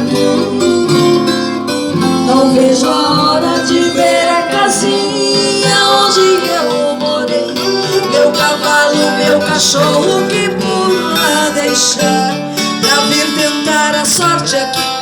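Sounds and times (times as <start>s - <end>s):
guitar accompaniment: 0.0s - 15.0s
person singing: 0.0s - 15.0s.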